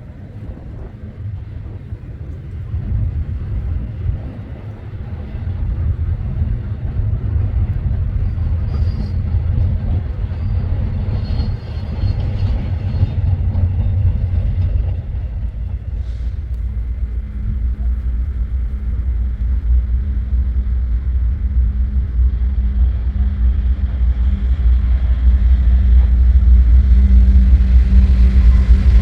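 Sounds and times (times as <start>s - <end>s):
freight train rumbling past: 0.0s - 29.0s.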